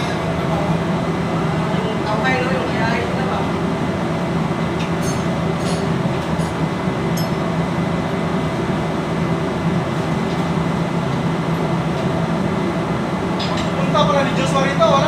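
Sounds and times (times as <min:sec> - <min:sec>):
machinery drone with low hum: 0:00.0 - 0:15.0.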